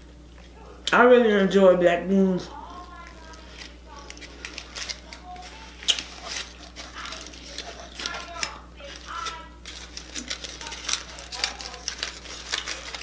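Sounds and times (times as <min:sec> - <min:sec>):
foil wrapper crinkling: 0:02.5 - 0:13.0.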